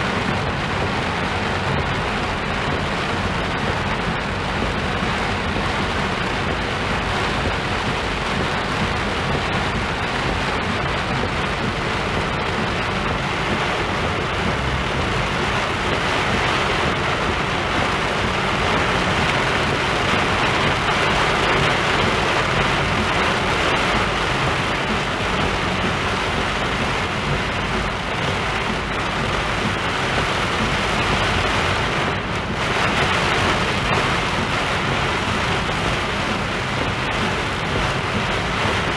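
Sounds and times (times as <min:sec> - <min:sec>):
car driving on flooded road: 0:00.0 - 0:38.9
torrential rain on a car: 0:00.0 - 0:38.9.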